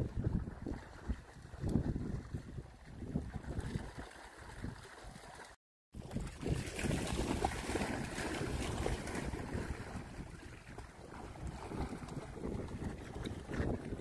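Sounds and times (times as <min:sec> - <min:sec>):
wind rumbling on microphone: 0:00.0 - 0:05.3, 0:06.0 - 0:14.0
dogs splashing through water: 0:00.0 - 0:14.0.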